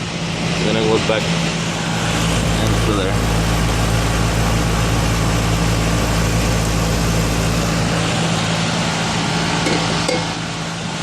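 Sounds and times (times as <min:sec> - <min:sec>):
compressor electrical hum: 0:00.0 - 0:11.0
condenser fan whoosh: 0:00.0 - 0:11.0.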